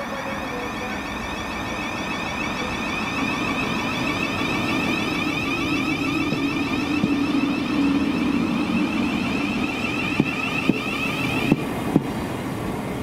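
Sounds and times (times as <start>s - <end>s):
electric train whine: 0.0s - 13.0s
train running rumble: 0.0s - 13.0s.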